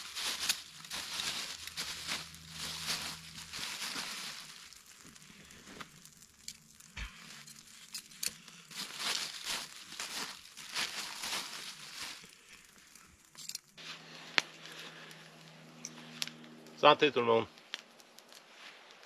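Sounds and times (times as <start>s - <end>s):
material crinkling and rustling: 0.0s - 19.0s.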